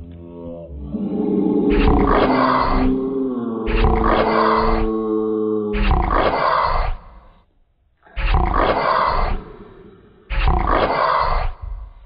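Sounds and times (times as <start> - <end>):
harsh growling roar: 0.0 - 7.4, 8.0 - 12.0.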